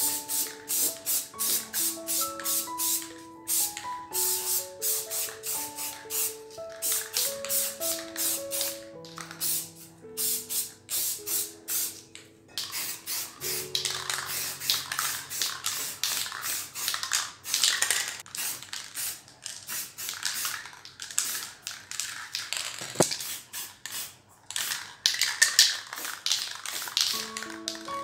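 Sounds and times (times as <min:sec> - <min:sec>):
spray paint hissing bursts: 0:00.0 - 0:21.6, 0:22.8 - 0:28.0.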